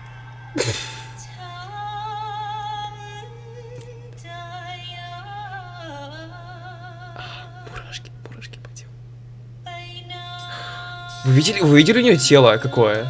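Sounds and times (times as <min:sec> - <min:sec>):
woman singing with vibrato: 0:00.0 - 0:08.0, 0:09.6 - 0:13.0
steady low hum: 0:00.0 - 0:13.0.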